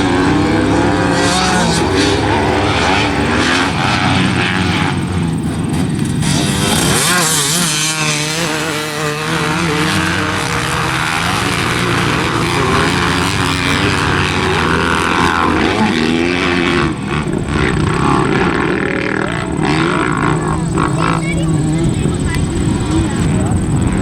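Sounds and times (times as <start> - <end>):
dirt bike engines revving: 0.0 - 24.0
steady rushing noise: 0.0 - 24.0.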